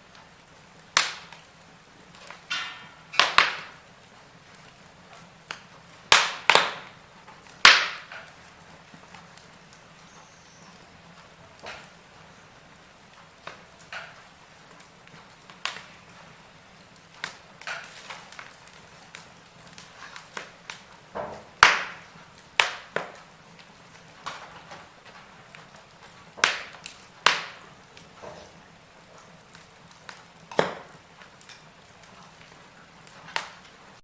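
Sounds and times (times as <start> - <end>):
faint background hiss: 0.0 - 34.0
wood fire crackling: 0.0 - 34.0.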